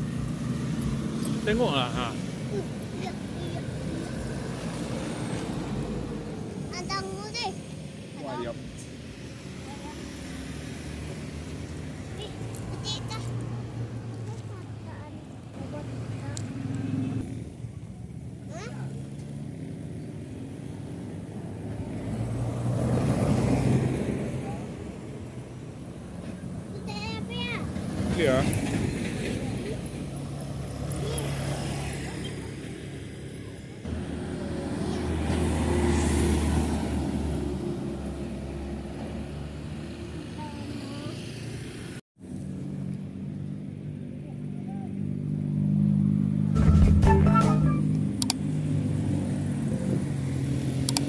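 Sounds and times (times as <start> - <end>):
vehicle engine passing by: 0.0 - 6.9, 8.4 - 51.0.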